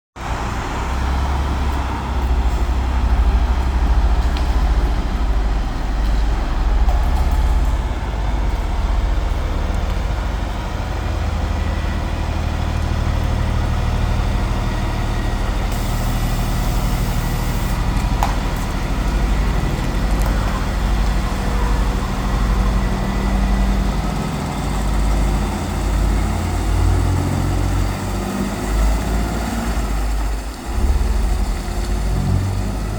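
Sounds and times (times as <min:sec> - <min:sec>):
truck diesel engine running: 0:00.2 - 0:32.9.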